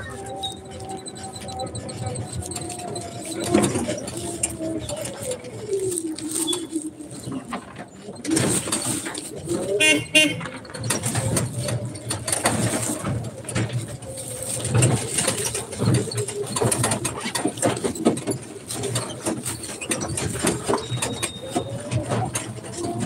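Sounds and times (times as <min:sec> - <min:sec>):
rickshaw frame rattling: 0:00.0 - 0:23.0.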